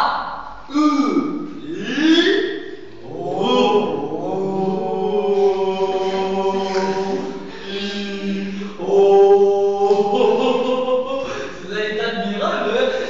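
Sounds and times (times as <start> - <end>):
young man chanting: 0.0 - 13.0.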